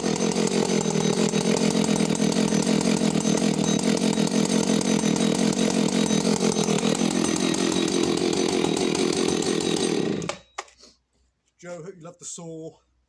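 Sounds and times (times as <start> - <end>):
chainsaw engine running: 0.0 - 10.5.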